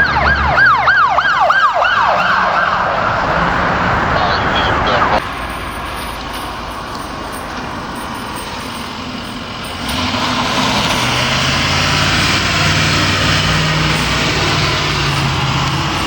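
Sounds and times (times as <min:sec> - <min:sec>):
street traffic: 0:00.0 - 0:16.0
heavy truck engine running: 0:02.0 - 0:16.0.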